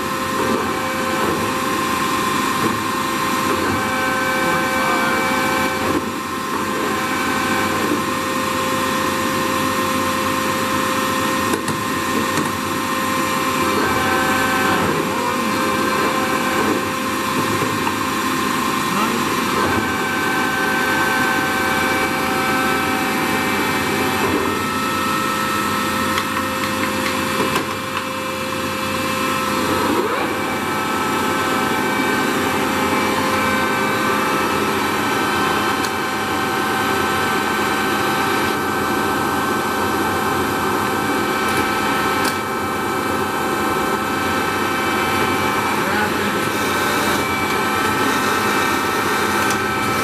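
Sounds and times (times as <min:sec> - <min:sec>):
lathe mechanical drone: 0:00.0 - 0:50.0.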